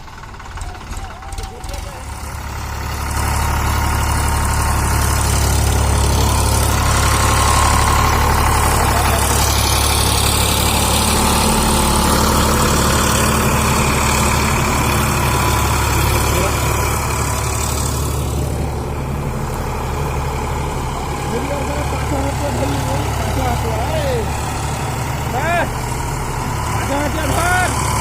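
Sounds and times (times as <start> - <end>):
tractor diesel engine humming: 0.0 - 28.0.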